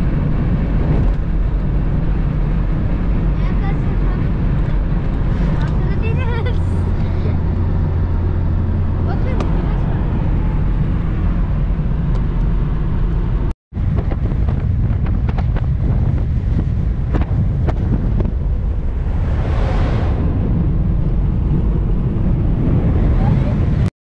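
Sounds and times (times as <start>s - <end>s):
car road rumble: 0.0s - 23.9s
rushing noise: 0.0s - 23.9s
wind buffeting microphone: 0.0s - 23.9s.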